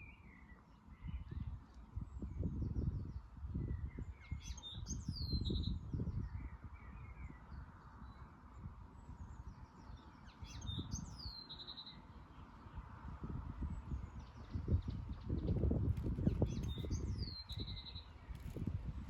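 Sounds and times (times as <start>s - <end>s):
songbird singing: 0.0s - 19.0s
wind buffeting microphone: 0.9s - 11.4s, 12.6s - 19.0s.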